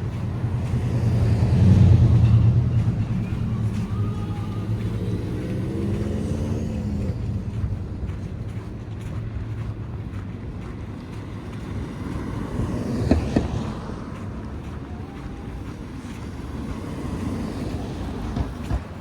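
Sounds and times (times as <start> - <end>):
steady traffic hum: 0.0 - 19.0
vehicle engine rumble passing: 0.0 - 19.0.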